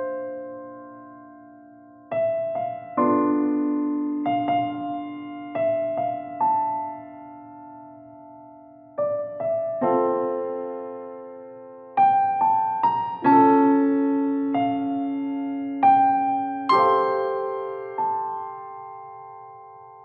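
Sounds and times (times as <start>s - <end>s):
slow gentle solo piano: 0.0s - 20.0s.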